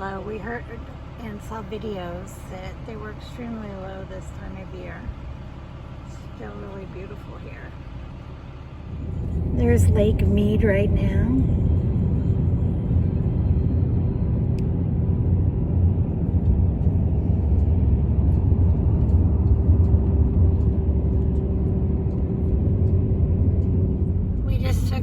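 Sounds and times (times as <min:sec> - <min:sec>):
truck road and engine rumble: 0:00.0 - 0:25.0.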